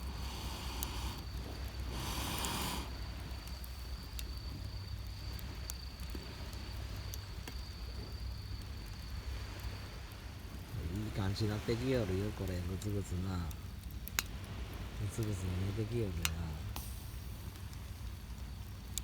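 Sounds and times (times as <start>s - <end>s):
campfire crackling and popping: 0.0s - 19.0s
high insect trill: 0.0s - 19.0s
low steady rumble: 0.0s - 19.0s.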